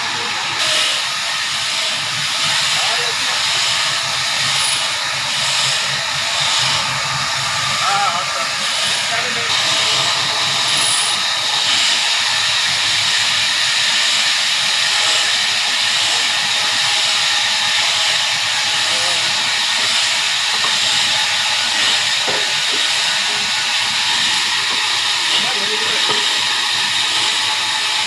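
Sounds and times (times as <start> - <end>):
sawmill saw cutting log: 0.0 - 28.0.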